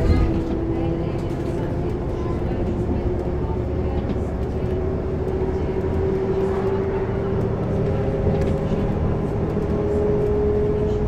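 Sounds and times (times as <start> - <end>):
bus engine drone: 0.0 - 11.0
road rumble: 0.0 - 11.0.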